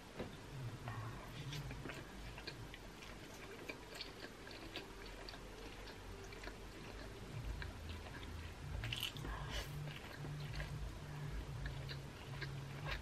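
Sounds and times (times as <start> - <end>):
person chewing noodles: 1.3 - 13.0.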